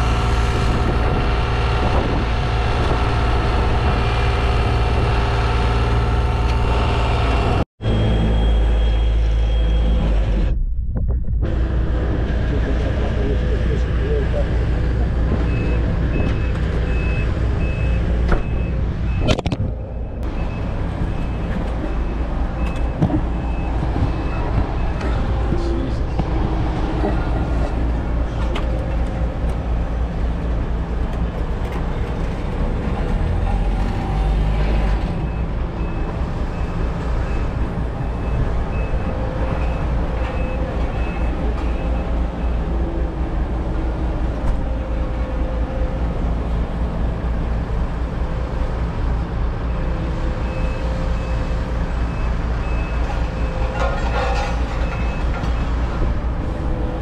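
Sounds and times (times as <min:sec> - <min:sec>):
diesel construction equipment rumbling: 0:00.0 - 0:57.0.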